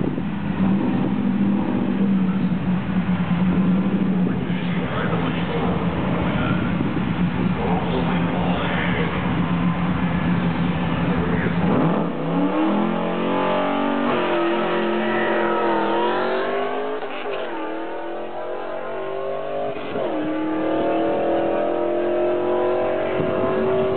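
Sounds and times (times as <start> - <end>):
car engine revving and accelerating: 0.0 - 23.9.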